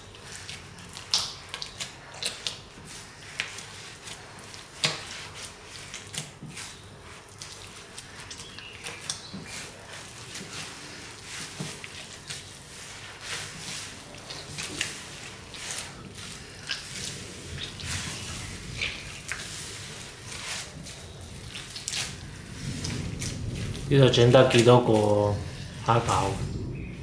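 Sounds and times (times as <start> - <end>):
hands kneading sticky dough: 0.0 - 27.0.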